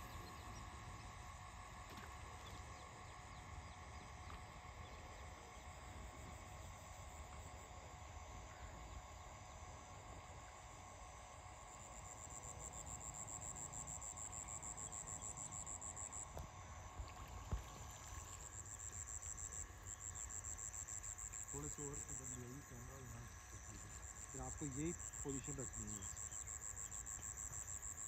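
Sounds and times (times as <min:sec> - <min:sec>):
faint outdoor background: 0:00.0 - 0:28.0
insects trilling: 0:00.0 - 0:28.0.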